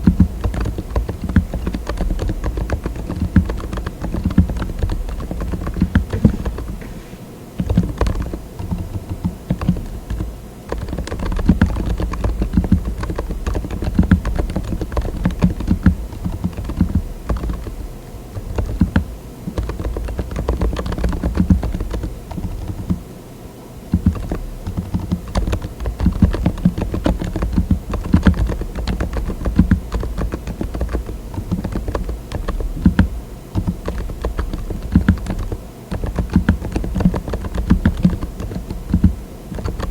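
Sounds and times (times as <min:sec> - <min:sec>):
fast typing on mechanical keyboard: 0:00.0 - 0:23.0, 0:23.9 - 0:39.9.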